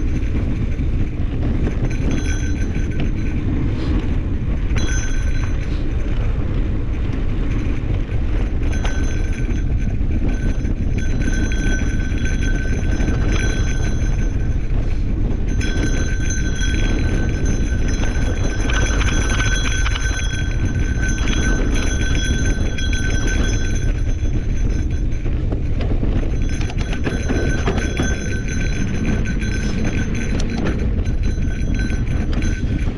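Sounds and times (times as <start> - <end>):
high whine from bike: 0.0 - 32.9
wind and tyre rumble: 0.0 - 32.9.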